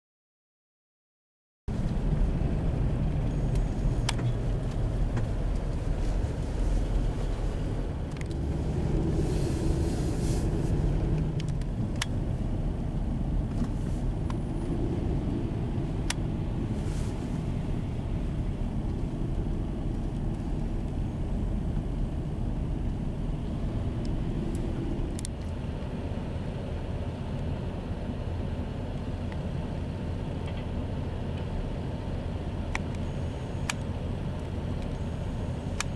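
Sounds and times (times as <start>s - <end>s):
car engines idling in traffic: 1.7s - 35.9s.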